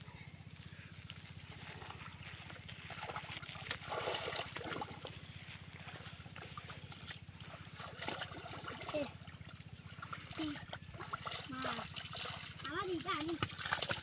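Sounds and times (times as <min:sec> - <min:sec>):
low pulsing engine drone: 0:00.0 - 0:14.0.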